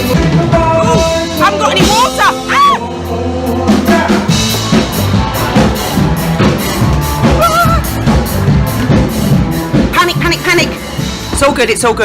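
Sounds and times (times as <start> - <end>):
live band playing loudly: 0.0 - 11.9
drum kit beat: 0.0 - 12.0.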